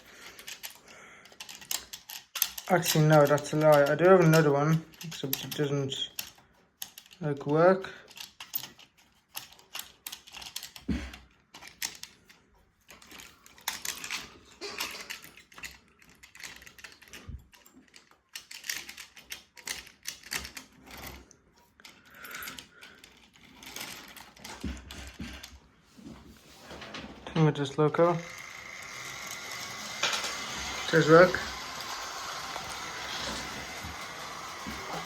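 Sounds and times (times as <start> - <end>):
model train clicks and rattles: 0.0 - 25.6, 27.5 - 35.0.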